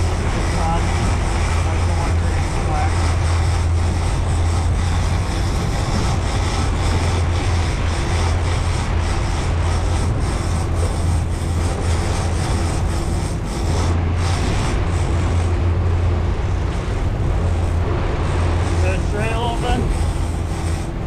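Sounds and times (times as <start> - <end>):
churning boat wake: 0.0 - 21.0
outboard motors droning: 0.0 - 21.0
wind rushing: 0.0 - 21.0.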